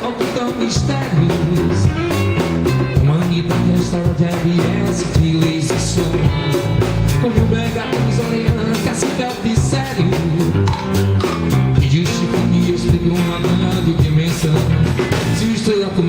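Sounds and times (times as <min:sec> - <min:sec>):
live band playing upbeat dance song: 0:00.0 - 0:16.0.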